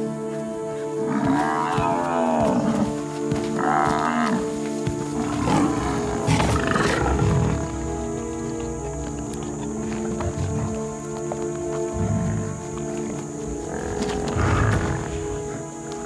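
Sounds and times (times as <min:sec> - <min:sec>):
background music: 0:00.0 - 0:16.0
buffalo bellowing: 0:01.0 - 0:04.5, 0:05.1 - 0:15.8.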